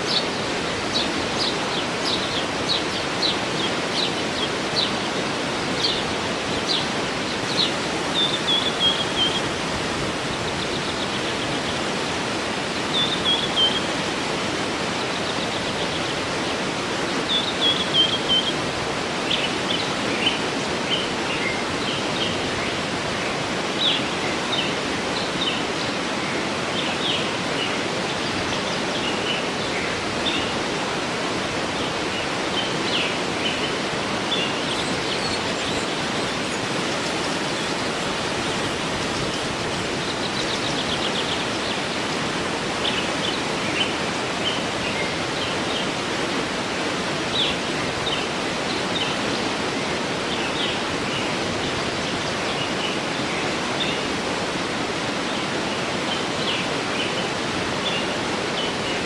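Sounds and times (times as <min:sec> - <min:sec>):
songbirds chirping: 0:00.0 - 0:59.0
waterfall rushing: 0:00.0 - 0:59.0.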